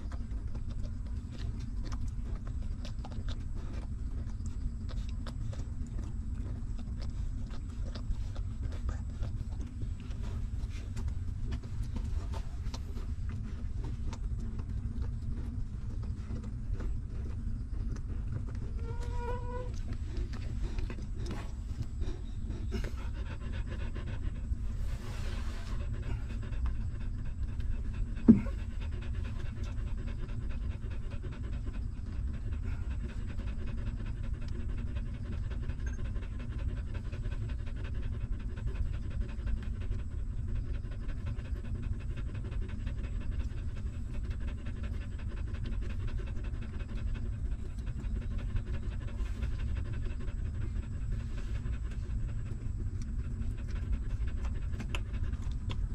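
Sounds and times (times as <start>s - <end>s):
dog panting rapidly: 0.0s - 55.9s.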